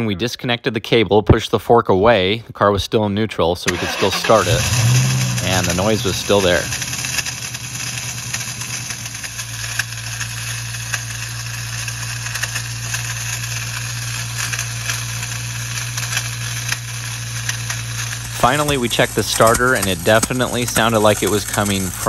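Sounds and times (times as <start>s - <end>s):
car engine idling: 3.7s - 22.0s
engine rattle: 3.7s - 22.0s.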